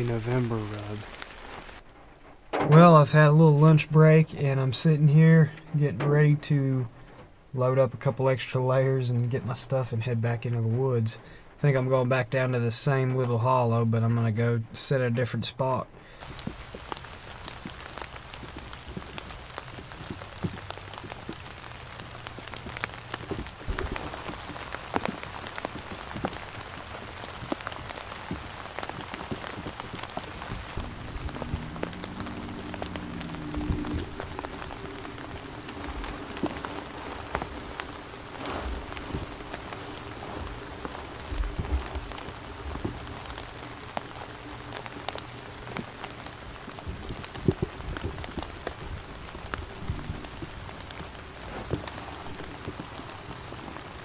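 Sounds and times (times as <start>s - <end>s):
raindrops ticking: 0.0s - 14.8s, 16.0s - 54.0s
rain hissing in woods: 0.0s - 54.0s.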